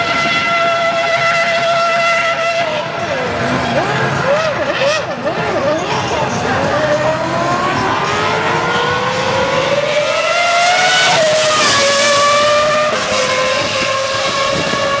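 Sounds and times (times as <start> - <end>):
racing car engine passing: 0.0 - 15.0.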